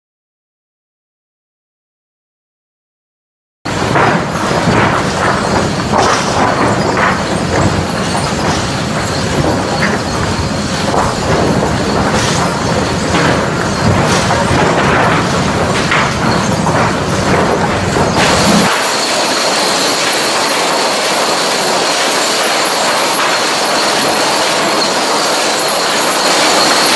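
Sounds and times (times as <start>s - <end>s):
boards clattering and knocking: 3.7s - 26.9s
steady machine din: 3.7s - 26.9s.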